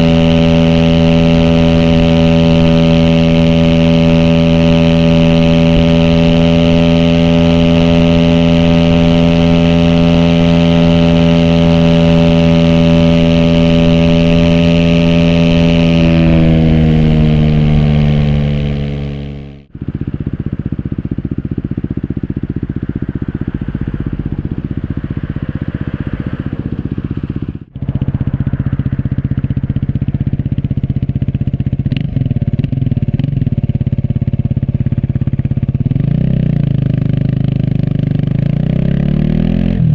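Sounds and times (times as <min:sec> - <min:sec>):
motorcycle engine revving: 0:00.0 - 0:39.9
pulsing exhaust beat: 0:00.0 - 0:39.9.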